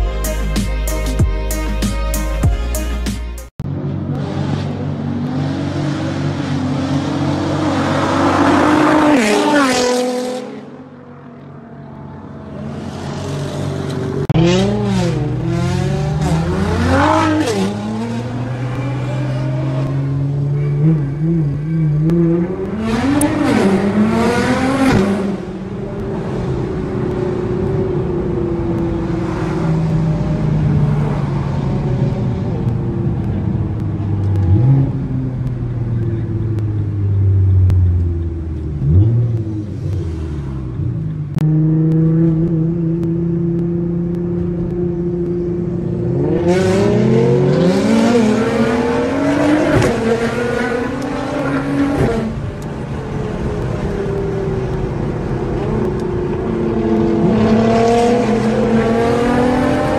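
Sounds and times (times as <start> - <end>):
car engines revving: 3.6 - 59.9.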